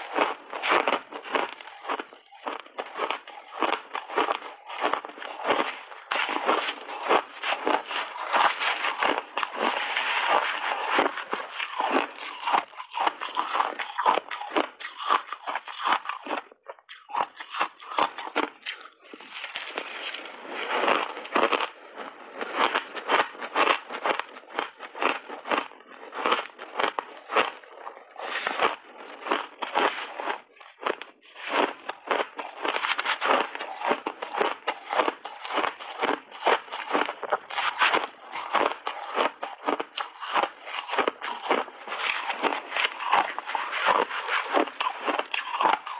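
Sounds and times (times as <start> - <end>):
chewing ice crunches: 0.0 - 45.9.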